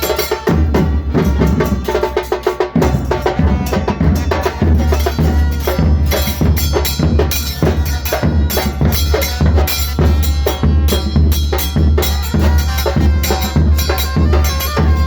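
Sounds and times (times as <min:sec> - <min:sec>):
band playing music: 0:00.0 - 0:15.0.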